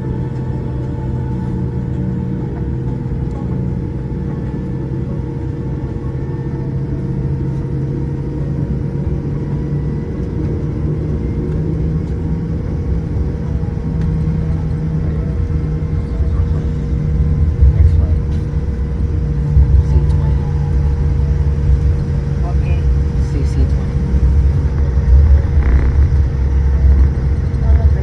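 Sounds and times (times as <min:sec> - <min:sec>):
airliner cabin rumble and hum: 0:00.0 - 0:28.0
cabin air running: 0:00.0 - 0:28.0.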